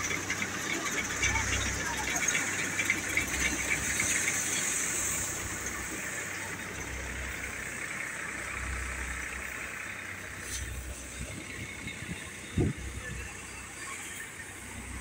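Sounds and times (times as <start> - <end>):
thresher drum beating straw: 0.0 - 15.0
tractor engine running: 0.0 - 15.0.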